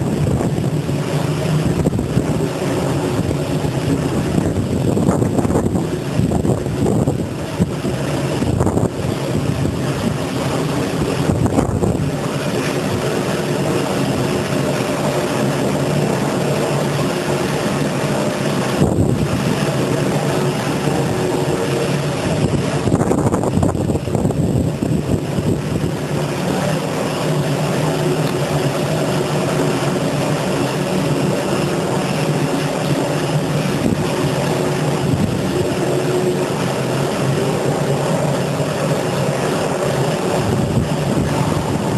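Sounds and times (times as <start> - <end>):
machine motor drone: 0.0 - 41.9.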